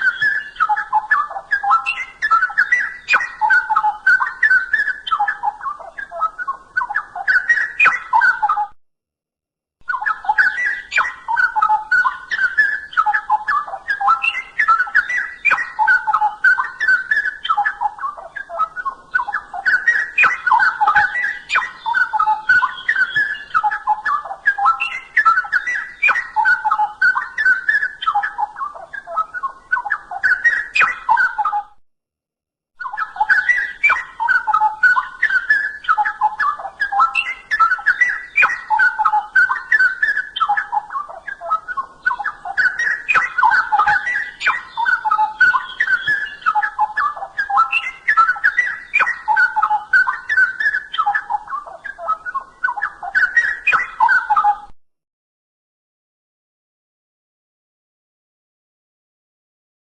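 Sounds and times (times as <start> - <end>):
bird singing bubbling warble: 0.0 - 8.7, 9.8 - 31.7, 32.8 - 54.7.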